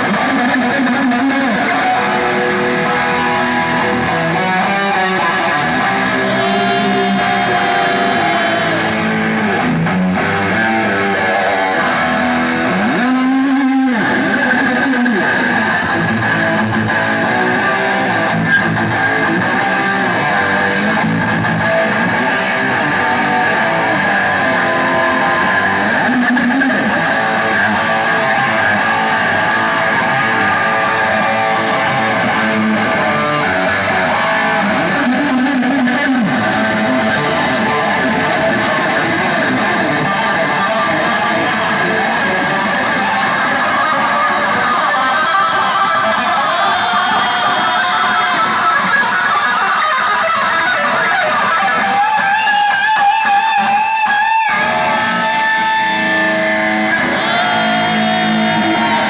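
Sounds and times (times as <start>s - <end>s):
electric guitars: 0.0s - 59.0s
heavy metal band playing: 0.0s - 59.0s.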